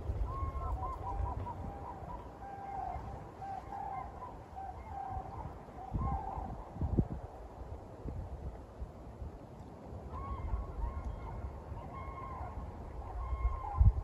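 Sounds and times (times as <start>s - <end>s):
waterbirds calling: 0.0s - 7.6s, 9.7s - 14.0s
wind rumble on microphone: 0.0s - 14.0s.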